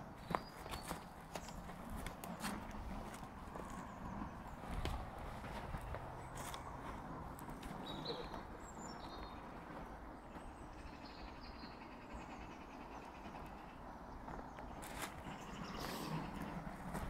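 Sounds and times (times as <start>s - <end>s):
small birds chirping: 0.0s - 17.0s
steady low rumble: 1.1s - 17.0s.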